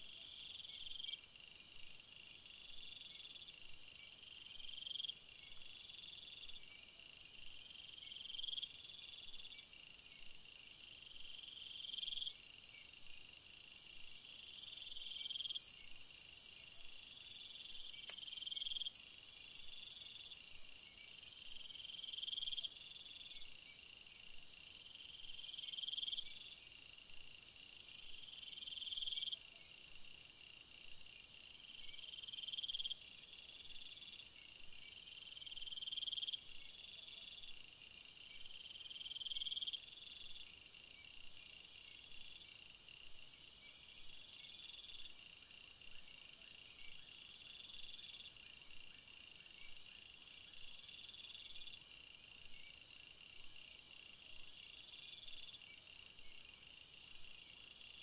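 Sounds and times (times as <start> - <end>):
insects trilling in chorus: 3.9 - 58.0.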